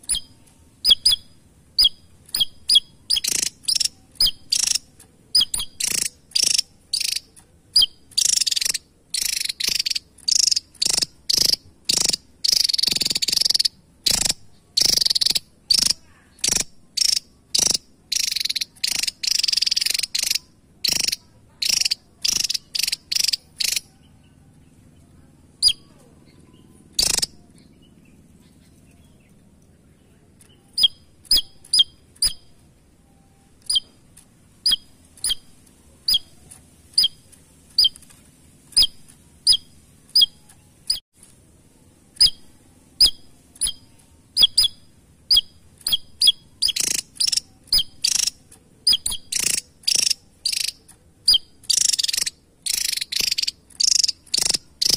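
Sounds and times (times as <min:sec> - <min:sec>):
bird chipping and buzzing: 0:00.0 - 0:54.9.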